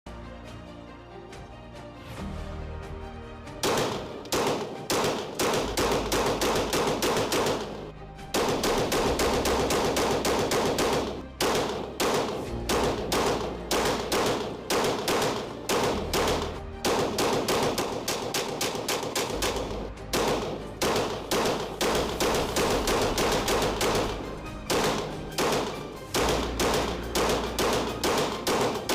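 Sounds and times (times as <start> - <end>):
background music with deep bass: 0.1 - 28.9
pistol shots: 3.6 - 28.9.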